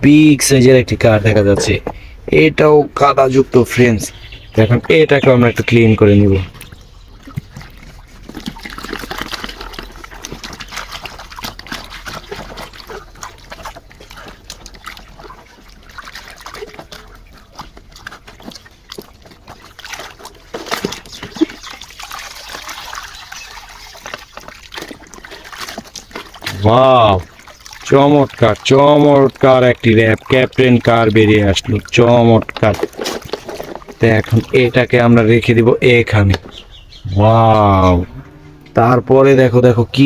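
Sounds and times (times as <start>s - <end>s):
water sloshing and splashing: 0.0s - 40.0s.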